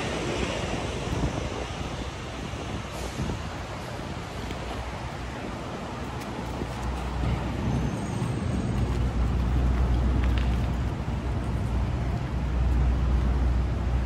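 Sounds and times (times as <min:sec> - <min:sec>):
street traffic noise: 0:00.0 - 0:14.0
wind rumble on microphone: 0:00.0 - 0:14.0.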